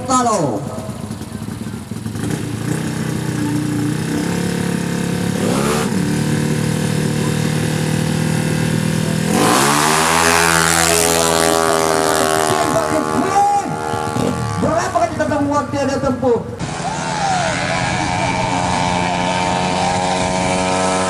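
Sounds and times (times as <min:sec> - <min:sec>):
scooter engine revving high: 0:00.0 - 0:15.4, 0:16.5 - 0:21.0.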